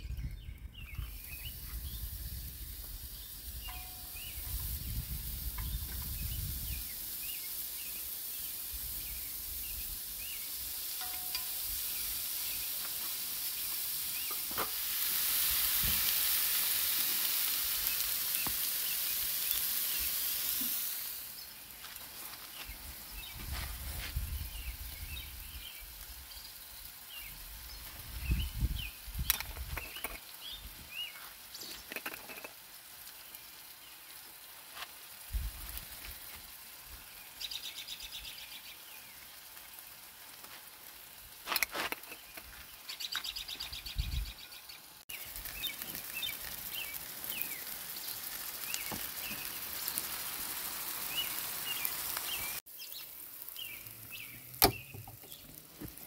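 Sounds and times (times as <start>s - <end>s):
small birds chirping: 0.0s - 14.6s, 15.5s - 34.6s, 35.4s - 40.0s, 41.6s - 56.0s
bacon sizzling on a griddle: 0.6s - 56.0s.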